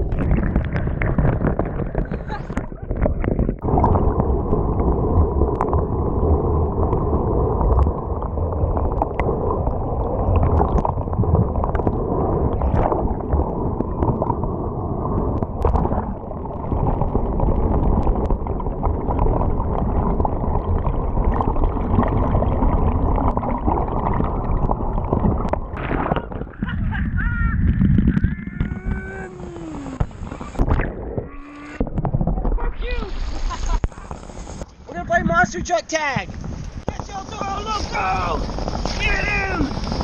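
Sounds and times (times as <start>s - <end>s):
muffled underwater surf: 0.0s - 40.0s.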